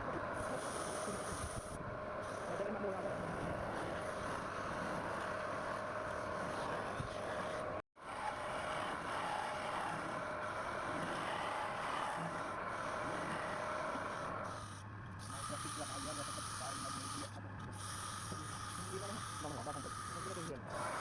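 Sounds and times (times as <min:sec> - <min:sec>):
tool scraping spinning wood: 0:00.0 - 0:21.0
wood lathe running: 0:00.0 - 0:21.0.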